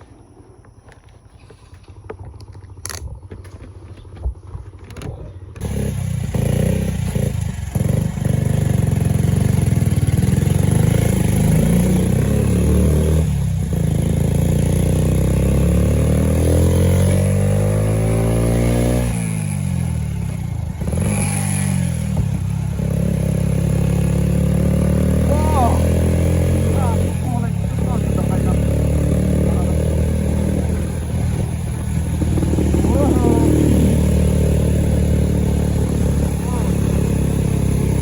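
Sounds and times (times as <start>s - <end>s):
motorcycle engine accelerating: 1.6s - 38.0s.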